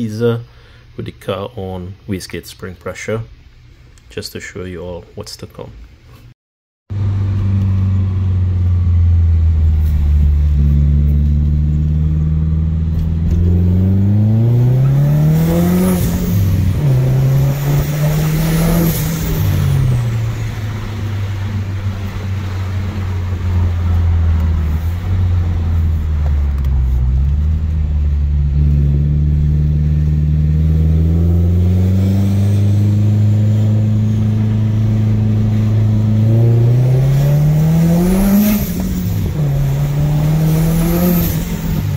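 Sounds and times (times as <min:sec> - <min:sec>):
turbocharged car engine revving: 0:06.9 - 0:41.9.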